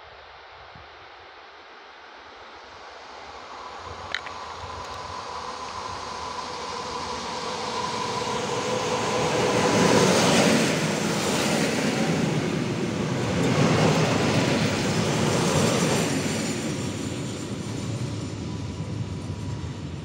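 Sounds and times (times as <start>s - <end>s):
electric train passing: 2.5s - 20.0s.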